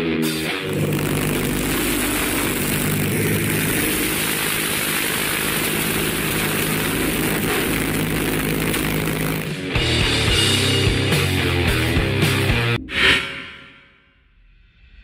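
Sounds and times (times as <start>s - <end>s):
motorcycle engine running steadily: 0.0s - 12.5s.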